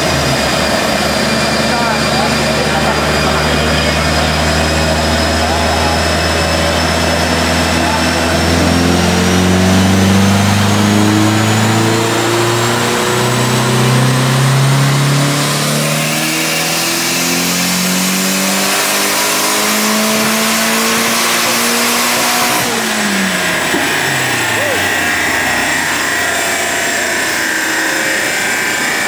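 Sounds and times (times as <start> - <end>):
car engine revving at full throttle: 0.0 - 29.0.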